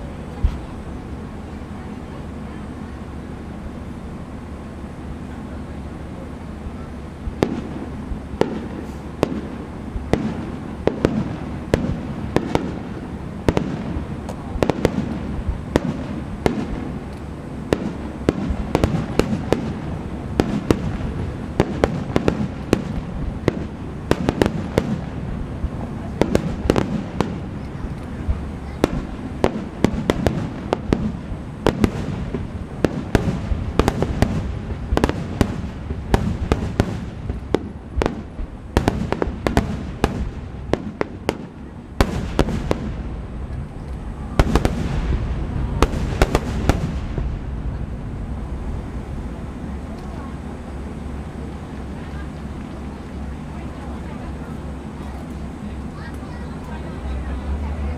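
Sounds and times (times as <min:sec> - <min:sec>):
low rumble of booms: 0:00.0 - 0:53.4
fireworks bangs: 0:00.0 - 0:57.9.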